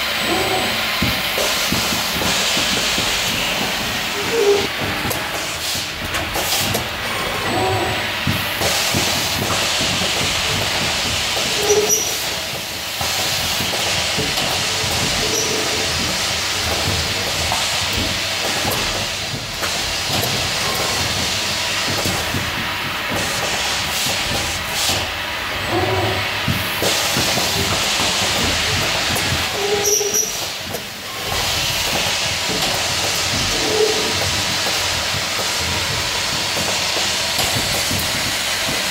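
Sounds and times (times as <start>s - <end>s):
machine hiss: 0.0s - 38.9s
pneumatic grippers clicking and clattering: 0.0s - 38.9s.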